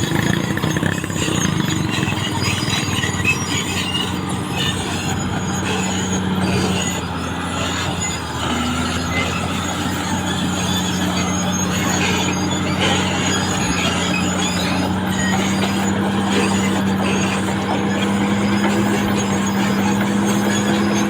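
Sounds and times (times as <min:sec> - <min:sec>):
bulldozer diesel engine running: 0:00.0 - 0:21.0
metallic squeal from steel tracks: 0:00.0 - 0:21.0.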